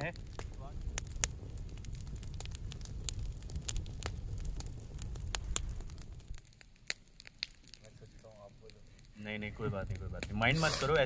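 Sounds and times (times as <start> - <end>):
campfire crackling and popping: 0.0 - 11.0
low fire rumble: 0.0 - 11.0.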